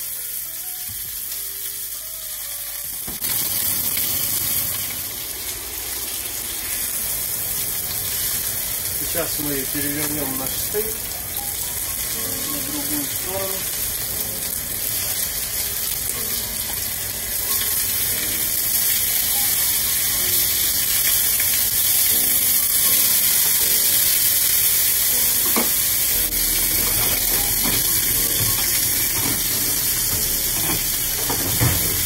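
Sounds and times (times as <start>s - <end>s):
steaks sizzling in a pan: 0.0s - 32.0s.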